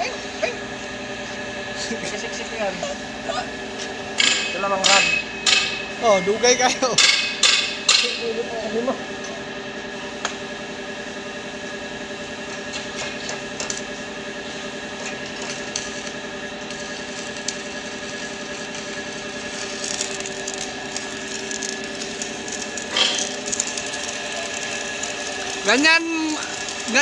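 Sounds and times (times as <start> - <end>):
welding arc crackling: 0.0 - 9.1, 9.8 - 27.0
steady hum: 0.0 - 27.0.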